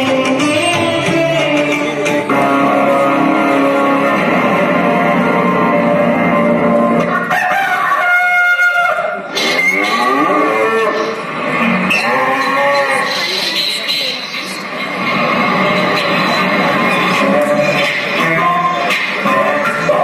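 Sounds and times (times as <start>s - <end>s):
soundtrack music: 0.0s - 7.6s, 9.4s - 20.0s.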